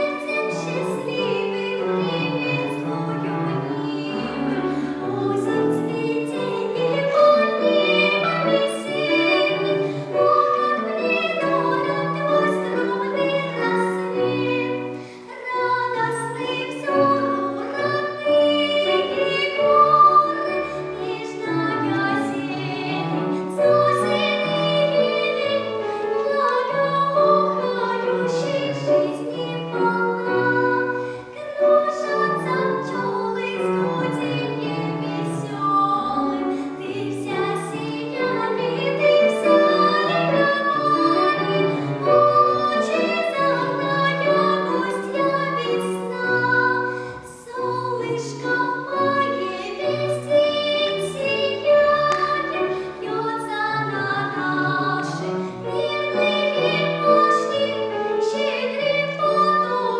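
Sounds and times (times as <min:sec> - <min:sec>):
child singing operatic style: 0:00.0 - 0:59.9.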